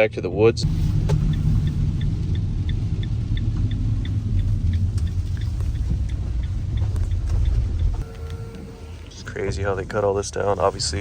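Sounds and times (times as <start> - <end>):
van engine and road rumble: 0.0 - 11.0
light regular ticking: 0.6 - 11.0.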